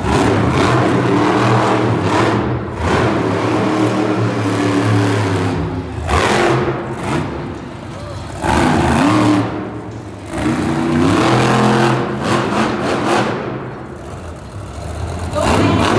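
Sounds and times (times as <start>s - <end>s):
truck engine revving: 0.0s - 15.9s.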